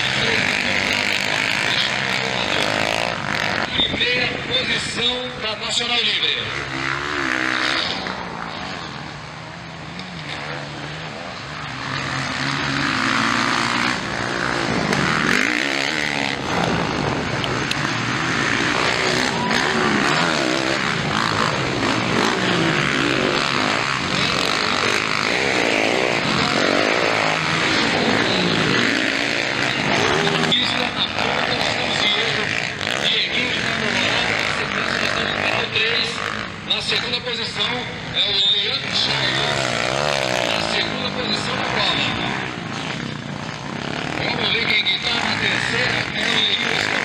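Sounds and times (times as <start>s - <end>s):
motocross bike engines revving: 0.0s - 47.0s.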